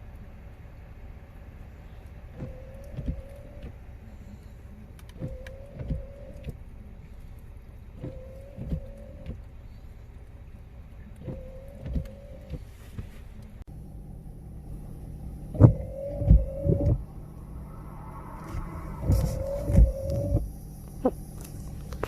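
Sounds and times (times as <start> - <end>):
low steady rumble: 0.0 - 22.0
windshield wiper motor whine: 1.9 - 7.2, 7.8 - 9.8, 11.0 - 22.0.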